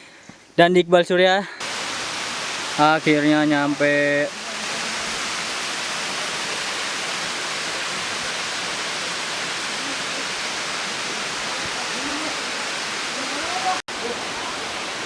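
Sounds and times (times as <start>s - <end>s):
waterfall rushing: 1.6s - 15.0s.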